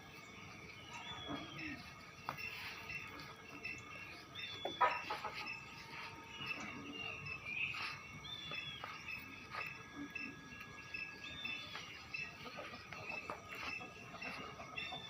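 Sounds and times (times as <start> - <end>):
insects: 0.0 - 15.0
small birds chirping: 0.0 - 15.0.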